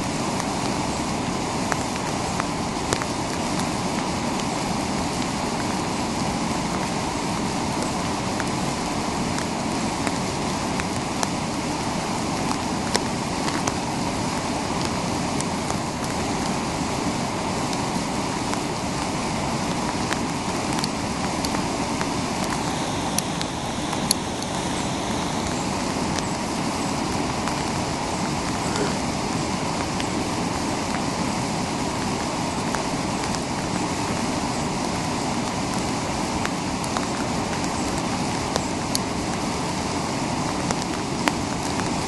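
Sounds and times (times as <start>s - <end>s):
river rapids rushing: 0.0s - 42.0s.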